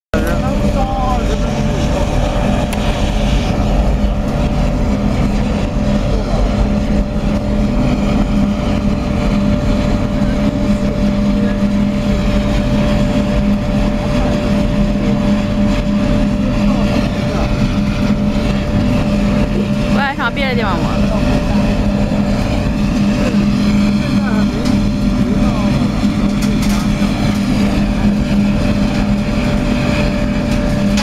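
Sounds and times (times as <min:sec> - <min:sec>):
burner flame roaring: 0:00.2 - 0:31.0
low hum: 0:00.2 - 0:31.0
thin whine: 0:00.2 - 0:31.0.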